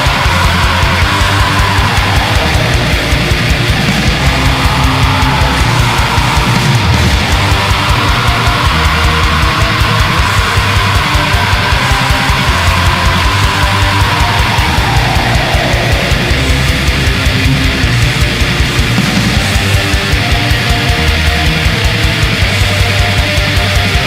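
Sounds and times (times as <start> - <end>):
distorted electric guitars: 0.0 - 24.0
guitar line sliding down: 0.0 - 24.0
rapid kick drum: 0.0 - 24.0.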